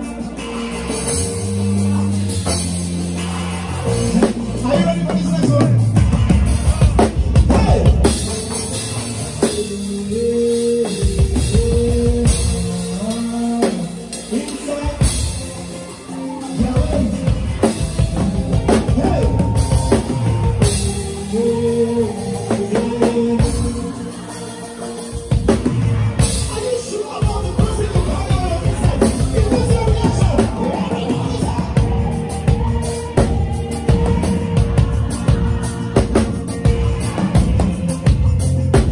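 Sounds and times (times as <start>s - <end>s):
drum kit beat: 0.0s - 38.9s.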